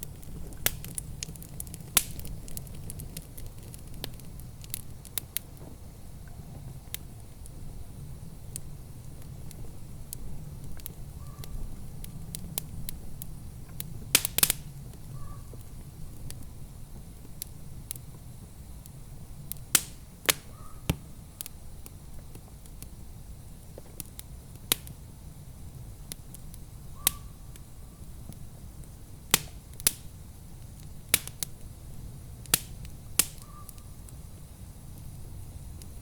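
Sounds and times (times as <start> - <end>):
fire pops: 0.0 - 36.0
wood fire crackling: 0.0 - 36.0.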